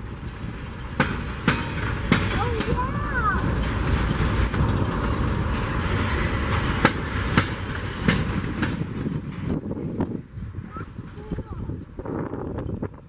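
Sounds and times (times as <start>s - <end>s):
clacks at rail joints: 0.0s - 13.0s
locomotive engine rumble: 0.0s - 13.0s
train wheels on rails: 0.0s - 13.0s.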